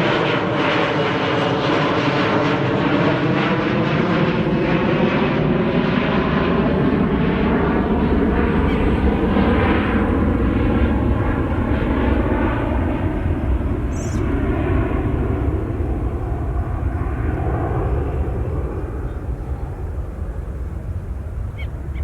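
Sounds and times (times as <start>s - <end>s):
jet airliner engines: 0.0s - 22.0s.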